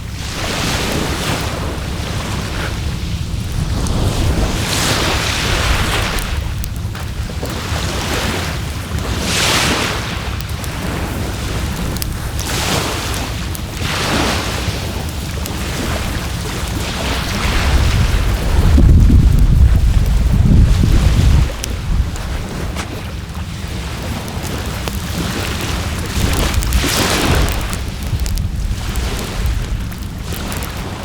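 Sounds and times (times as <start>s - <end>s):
campfire crackling: 0.0s - 31.0s
waves washing on shore: 0.0s - 31.0s
wind rumble on microphone: 0.0s - 31.0s.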